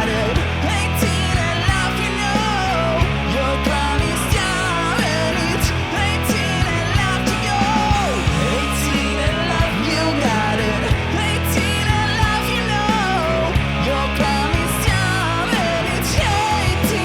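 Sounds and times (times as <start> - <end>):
hard rock band playing: 0.0 - 17.0
man singing: 0.0 - 17.0.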